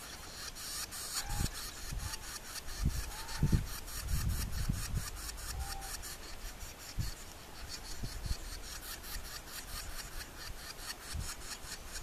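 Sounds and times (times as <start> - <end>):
nestlings begging rasping: 0.0 - 12.0.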